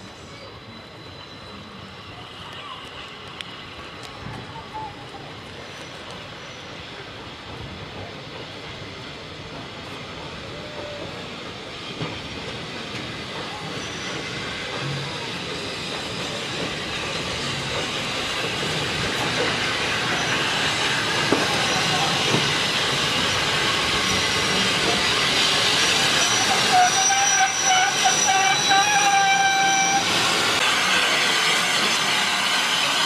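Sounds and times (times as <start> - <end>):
train wheels clattering on rails: 2.5 - 33.0
steam hissing: 3.2 - 33.0.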